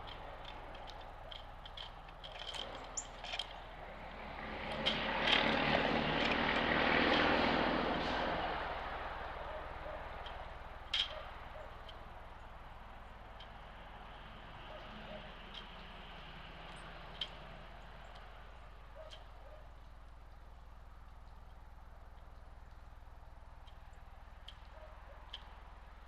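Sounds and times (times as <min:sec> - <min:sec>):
passing vehicle engine: 0:00.0 - 0:26.0.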